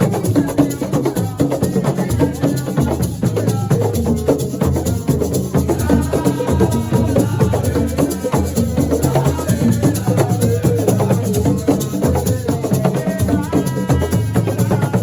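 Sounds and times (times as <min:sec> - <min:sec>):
drums and shakers: 0:00.0 - 0:15.0.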